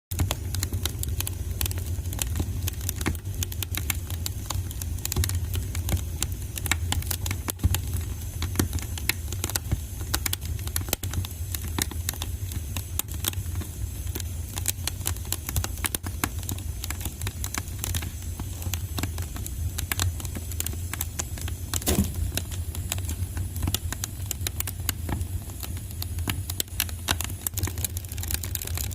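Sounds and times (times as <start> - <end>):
fire pops and snaps: 0.1 - 28.9
fireplace fire crackling: 0.1 - 28.9.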